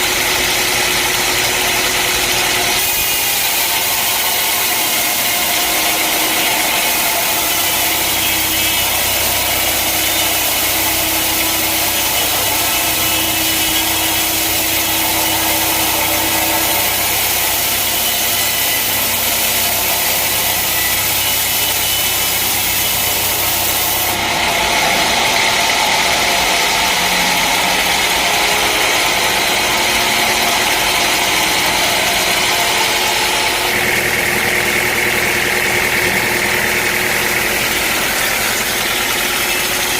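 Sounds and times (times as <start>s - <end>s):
sawmill sawing a log: 0.0s - 39.9s.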